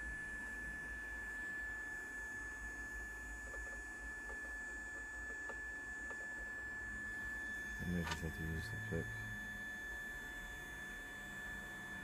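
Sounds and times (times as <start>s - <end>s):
high-pitched electronic whine: 0.0s - 12.0s
low electrical hum: 0.0s - 12.0s.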